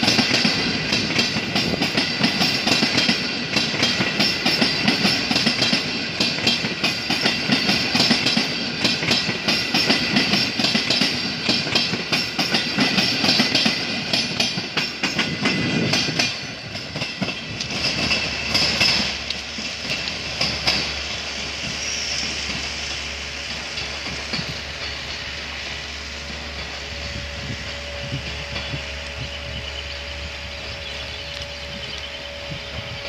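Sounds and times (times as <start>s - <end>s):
wheels clacking over rail joints: 0.0s - 29.2s
train rumble: 0.0s - 33.0s.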